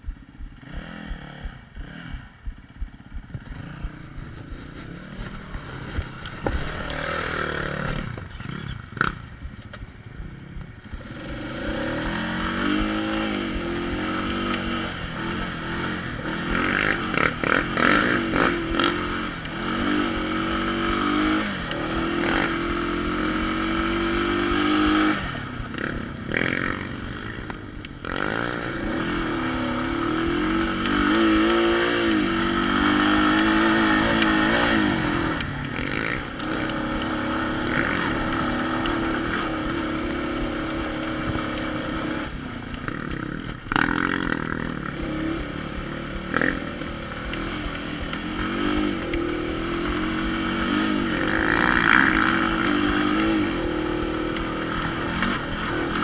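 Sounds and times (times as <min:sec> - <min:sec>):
quad engine revving: 0:00.6 - 0:09.6, 0:10.5 - 0:56.0.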